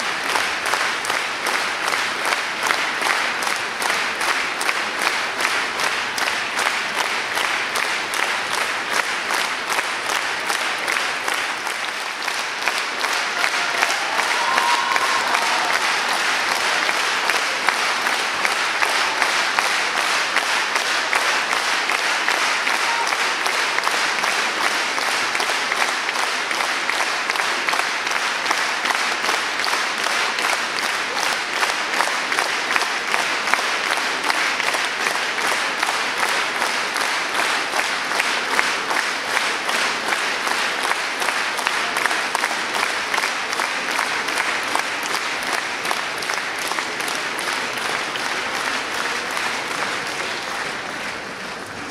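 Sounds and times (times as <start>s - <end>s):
audience applauding: 0.0s - 51.9s.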